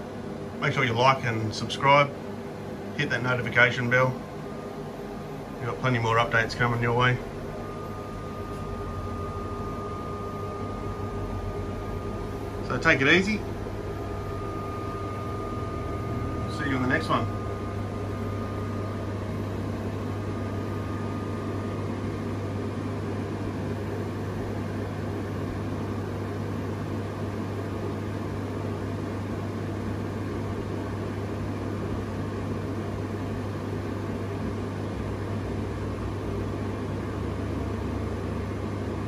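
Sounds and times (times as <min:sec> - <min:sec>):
cooling fans rushing: 0:00.0 - 0:39.0
steady electrical hum: 0:00.0 - 0:39.0.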